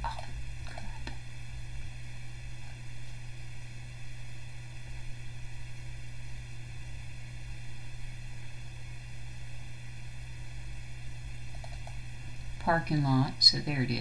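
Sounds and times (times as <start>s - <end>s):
low electrical hum: 0.0s - 14.0s
microphone hiss: 0.0s - 14.0s.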